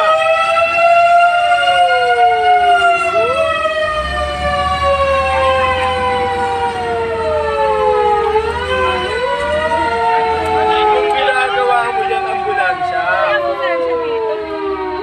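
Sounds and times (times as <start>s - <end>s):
fire truck sirens wailing: 0.0s - 15.0s.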